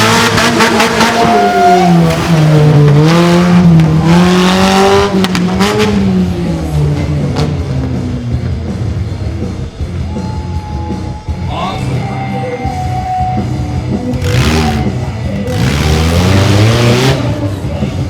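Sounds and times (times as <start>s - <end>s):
small truck engine revving: 0.0s - 9.9s, 13.4s - 18.0s
music: 1.3s - 18.0s.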